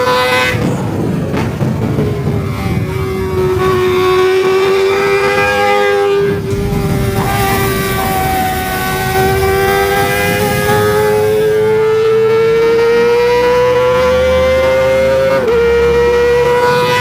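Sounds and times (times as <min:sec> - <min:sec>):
motorcycle engine wailing at high revs: 0:00.0 - 0:17.0.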